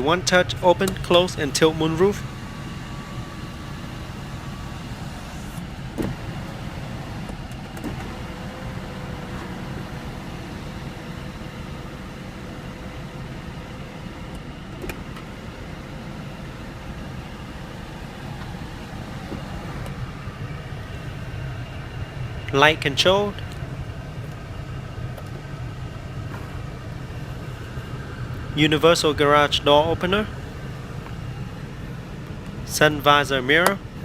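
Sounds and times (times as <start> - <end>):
low rumble inside car cabin: 0.0 - 34.0
moonroof motor whine: 0.0 - 34.0.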